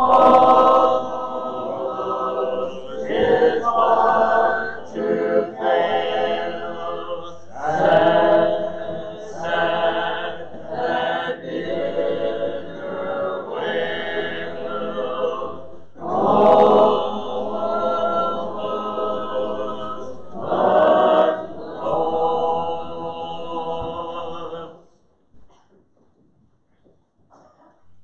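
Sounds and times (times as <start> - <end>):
unaccompanied hymn singing: 0.0 - 25.0.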